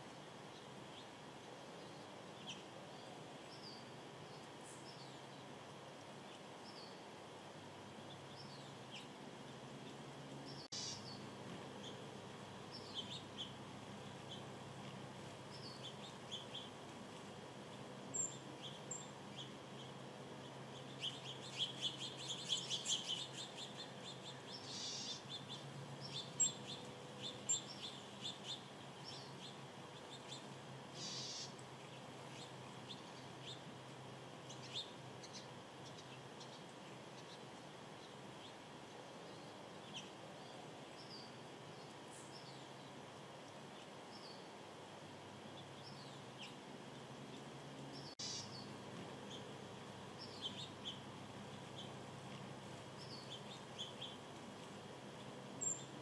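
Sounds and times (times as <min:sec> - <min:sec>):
faint background noise: 0:00.0 - 0:56.0
small birds chirping: 0:00.0 - 0:56.0.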